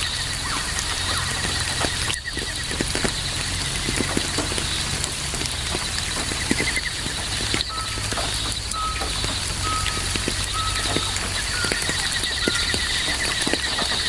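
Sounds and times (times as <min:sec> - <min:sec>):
crickets trilling: 0:00.0 - 0:14.0
raindrops pattering: 0:00.0 - 0:14.0
steady rain: 0:00.0 - 0:14.0.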